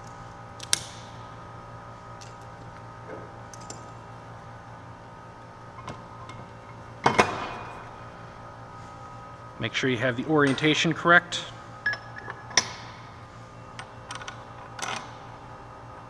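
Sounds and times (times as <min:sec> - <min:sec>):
shop hum: 0:00.0 - 0:16.0.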